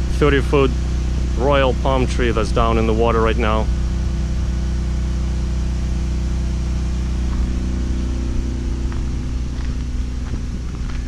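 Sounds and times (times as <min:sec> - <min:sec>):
generator engine drone: 0:00.0 - 0:11.0.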